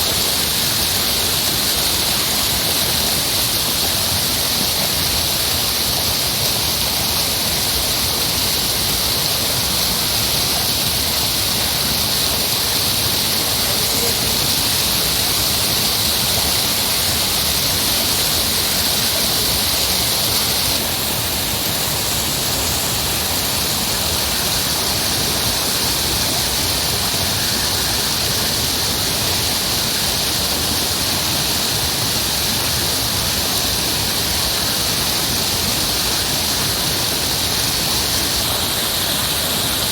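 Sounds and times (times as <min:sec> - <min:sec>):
heavy rushing water: 0:00.0 - 0:39.9.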